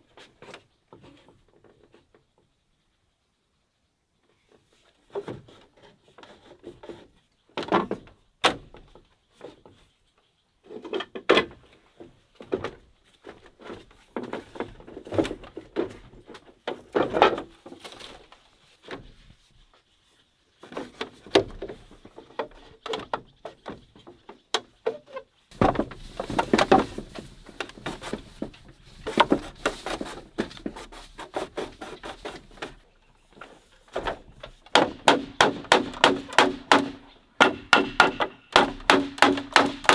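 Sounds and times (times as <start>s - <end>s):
bamboo poles knocking and scraping: 0.0s - 2.7s, 4.2s - 39.9s.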